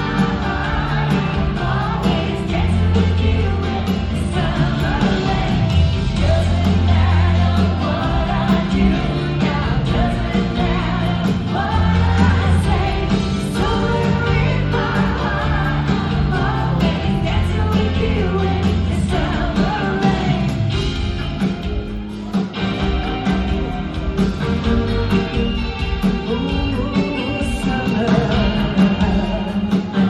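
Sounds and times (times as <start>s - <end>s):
lead vocal singing: 0.0s - 21.1s, 26.0s - 30.0s
pop-rock band playing live: 0.0s - 30.0s.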